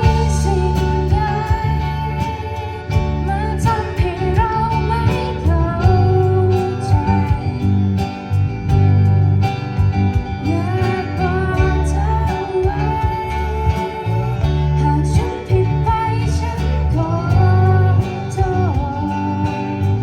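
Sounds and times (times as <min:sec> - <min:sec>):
drums keeping a beat: 0:00.0 - 0:20.0.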